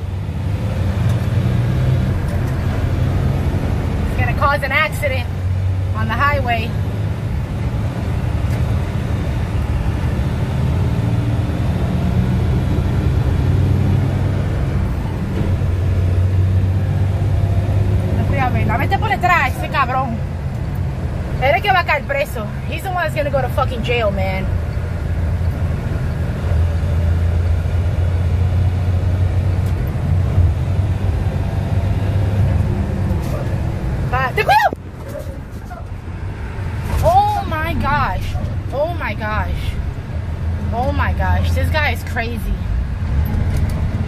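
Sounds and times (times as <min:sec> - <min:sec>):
road noise: 0:00.0 - 0:44.0
truck engine: 0:00.0 - 0:44.0.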